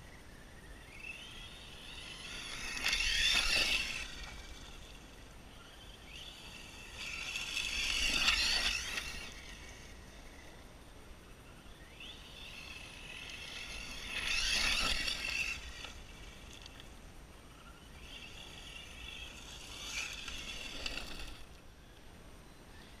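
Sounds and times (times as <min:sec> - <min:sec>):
rc truck motor whine: 0:00.0 - 0:23.0.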